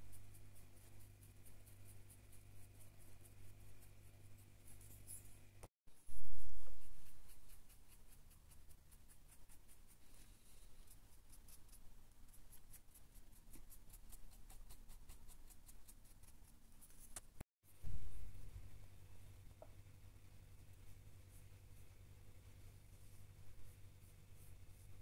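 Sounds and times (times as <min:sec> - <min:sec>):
paintbrush bristles scratching: 0:00.0 - 0:17.3, 0:20.8 - 0:25.0.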